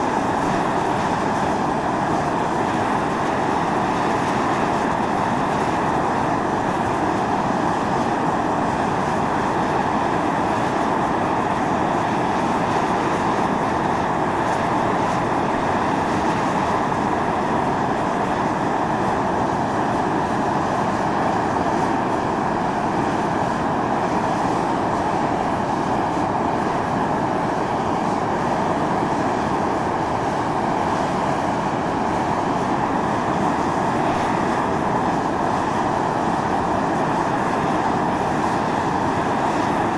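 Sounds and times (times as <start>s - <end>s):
steam hissing from a vent: 0.0s - 39.9s.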